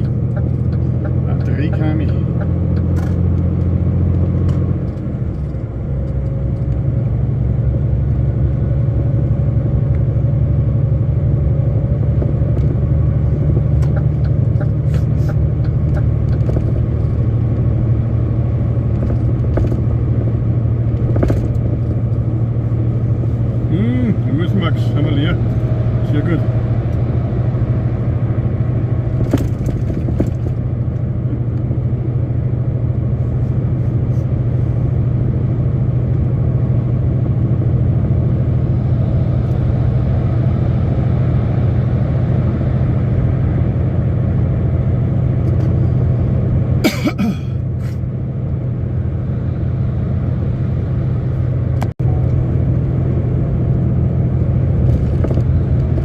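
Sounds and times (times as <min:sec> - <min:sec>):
truck engine and road drone: 0:00.0 - 0:56.0.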